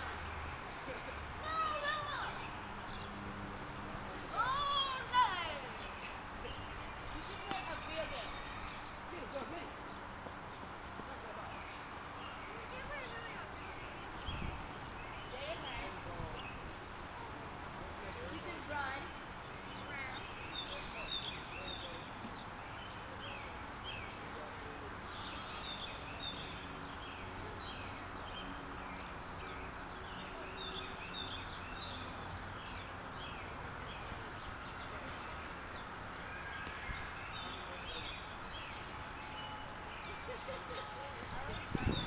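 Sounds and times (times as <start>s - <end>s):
outdoor background hiss: 0.0s - 42.0s
small birds chirping: 0.0s - 42.0s.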